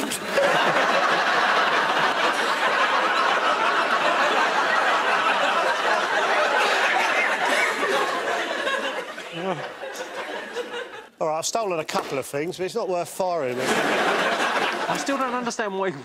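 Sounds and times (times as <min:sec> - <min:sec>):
audience laughing loudly: 0:00.0 - 0:11.2, 0:13.5 - 0:15.8.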